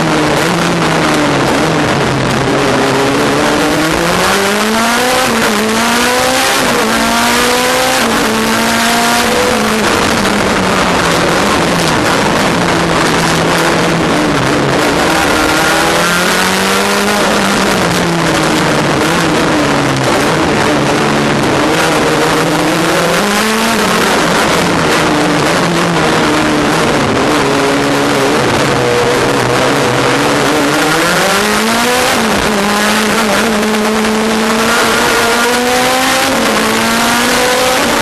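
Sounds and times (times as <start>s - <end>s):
race car engine revving: 0.0s - 38.0s
road and wind noise: 0.0s - 38.0s.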